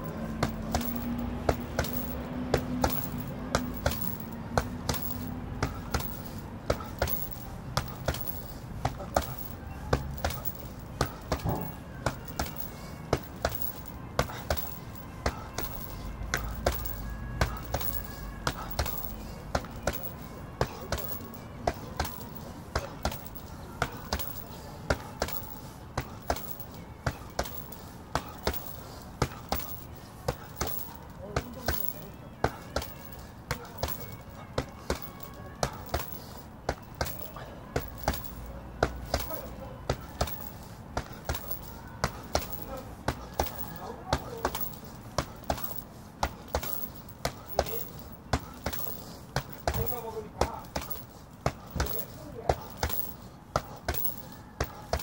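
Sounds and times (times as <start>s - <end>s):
boxing gloves thudding on heavy bag: 0.0s - 55.0s.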